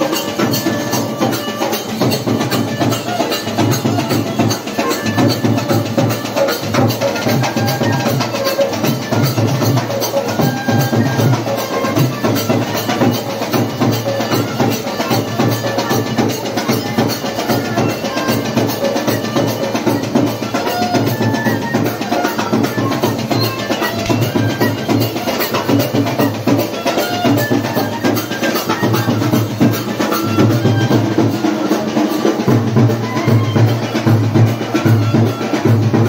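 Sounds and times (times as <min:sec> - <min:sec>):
hand drums beating: 0:00.0 - 0:36.0.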